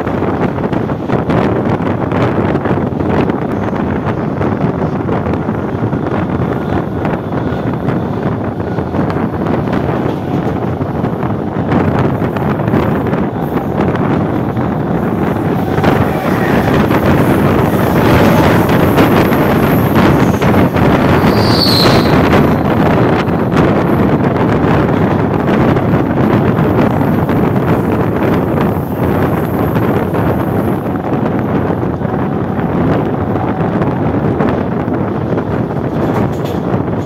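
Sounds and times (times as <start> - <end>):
passing train: 0.0 - 37.0
train wheels running on rails: 0.0 - 37.0
wind on the microphone: 0.0 - 37.0.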